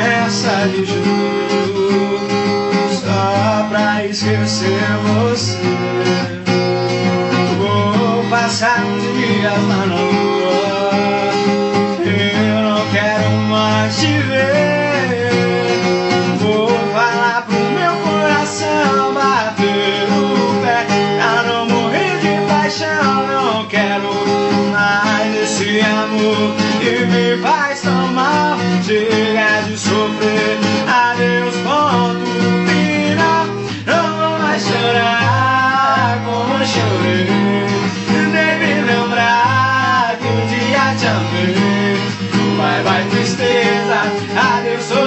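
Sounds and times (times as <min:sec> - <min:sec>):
acoustic guitar strumming: 0:00.0 - 0:45.0
bending melody line: 0:00.0 - 0:45.0.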